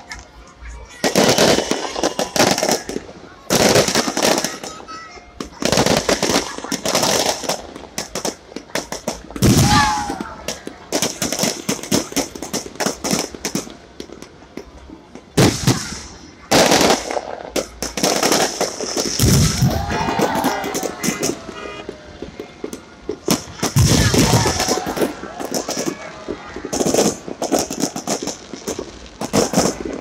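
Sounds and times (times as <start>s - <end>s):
fireworks crackling and popping: 0.0s - 30.0s
heavy fireworks bangs: 0.9s - 30.0s.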